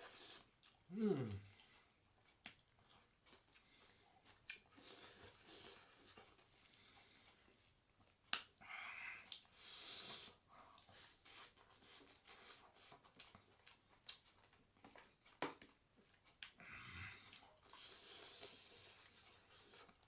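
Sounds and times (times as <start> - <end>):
chewing: 0.0 - 8.6, 10.6 - 20.0.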